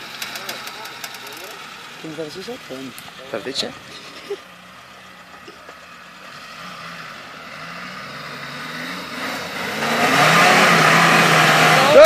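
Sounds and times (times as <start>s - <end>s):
off-road vehicle engine pulling under load: 0.0s - 12.0s.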